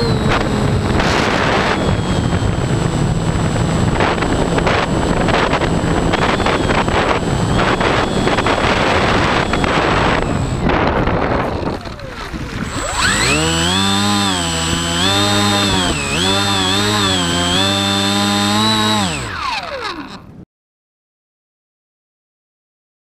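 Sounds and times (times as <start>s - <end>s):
propeller motor buzzing: 0.0s - 20.4s.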